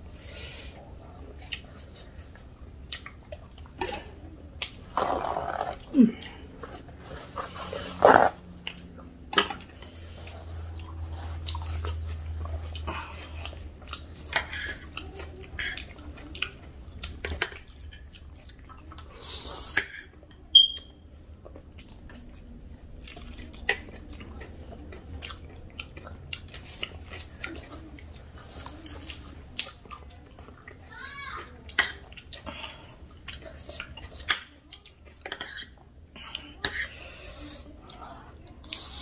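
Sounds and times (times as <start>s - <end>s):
chewing and crunching: 0.1s - 39.0s.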